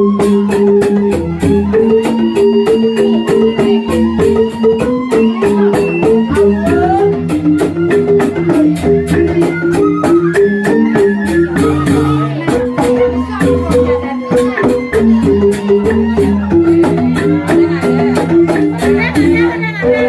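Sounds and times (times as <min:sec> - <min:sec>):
bamboo xylophones playing: 0:00.0 - 0:20.0
sharp percussion strokes: 0:00.0 - 0:20.0.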